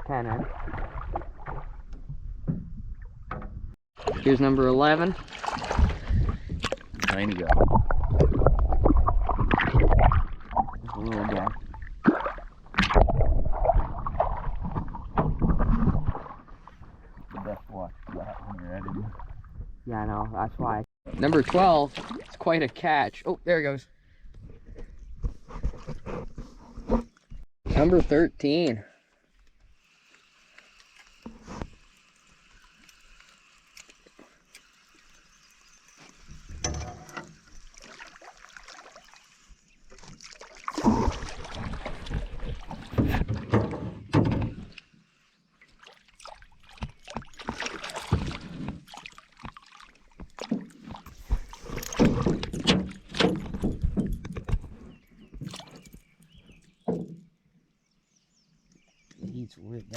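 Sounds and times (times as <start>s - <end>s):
water sloshing against hull: 0.1s - 19.9s, 21.1s - 22.8s, 30.6s - 57.4s.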